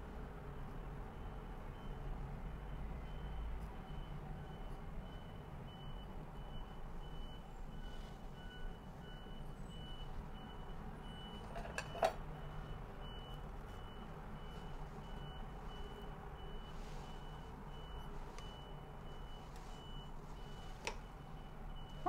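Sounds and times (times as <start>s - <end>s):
faint high-pitched beeping: 1.2s - 22.0s.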